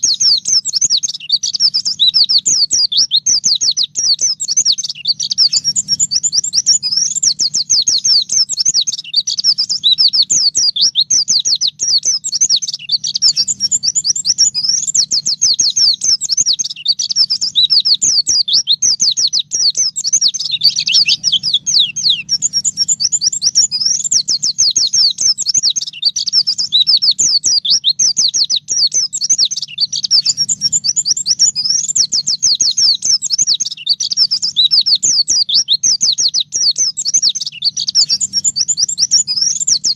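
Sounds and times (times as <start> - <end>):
bird singing fast chirps and trills: 0.0 - 39.9.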